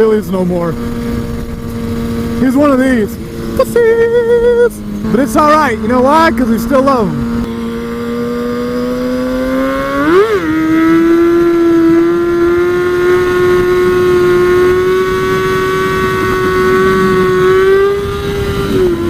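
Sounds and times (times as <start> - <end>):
sport bike engine at high revs: 0.0 - 19.0.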